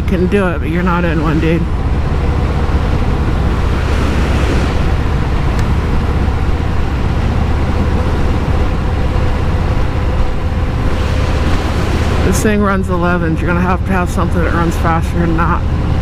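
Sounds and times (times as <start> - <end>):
motorcycle engine drone: 0.0 - 16.0
wind and road rush: 0.0 - 16.0.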